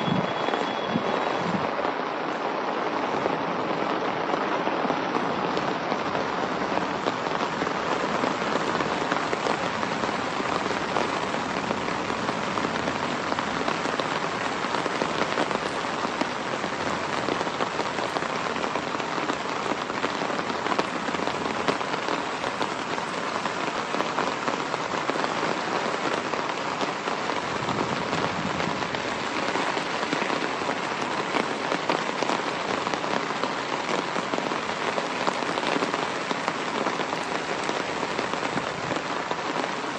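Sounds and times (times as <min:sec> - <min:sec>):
rain falling on puddled ground: 0:00.0 - 0:39.9.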